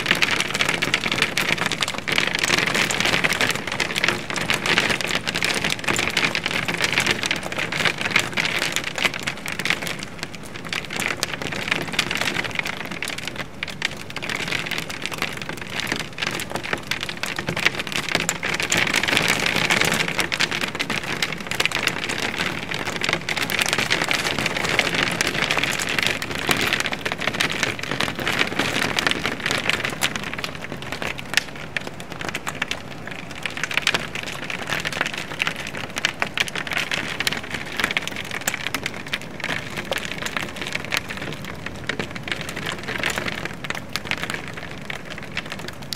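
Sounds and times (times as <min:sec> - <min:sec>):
hail and rain hitting a window: 0:00.0 - 0:45.9.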